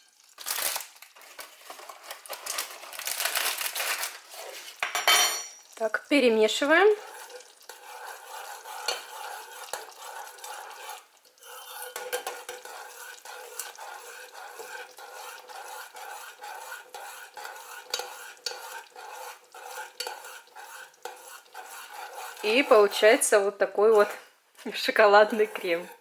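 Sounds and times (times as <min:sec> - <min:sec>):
spoon scraping a pot: 0:01.2 - 0:03.0, 0:03.8 - 0:26.0.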